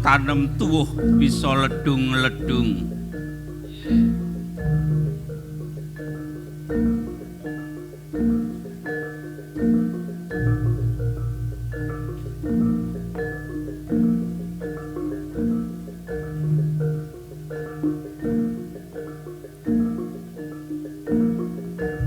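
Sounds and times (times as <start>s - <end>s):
metallophones ringing notes: 0.0s - 22.0s.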